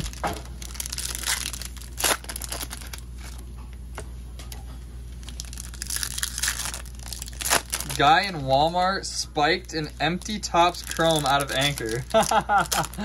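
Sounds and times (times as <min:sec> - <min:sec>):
card packaging crinkling and ripping: 0:00.0 - 0:03.4, 0:05.2 - 0:08.9, 0:09.5 - 0:13.0
low room hum: 0:00.0 - 0:13.0.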